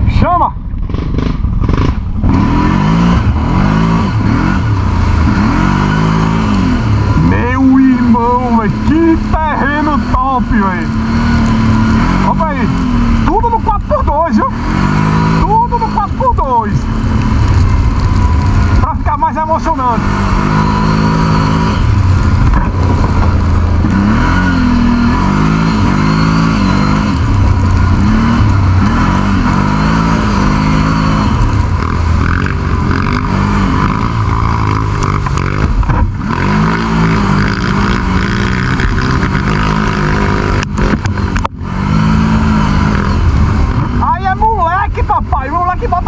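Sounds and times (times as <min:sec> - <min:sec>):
quad bike engine revving: 0:00.0 - 0:46.0
wind and ride noise rumble: 0:00.0 - 0:46.0.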